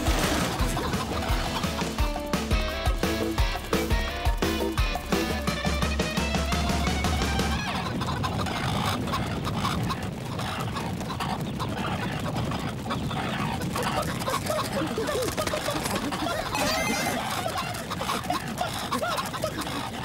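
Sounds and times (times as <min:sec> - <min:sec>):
cartoon chickens clucking: 0:00.0 - 0:20.0.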